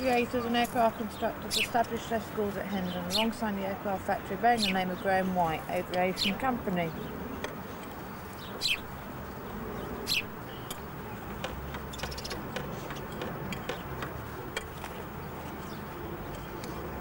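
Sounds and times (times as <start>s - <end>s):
sparrow chirps: 0.0s - 14.0s, 15.0s - 16.8s.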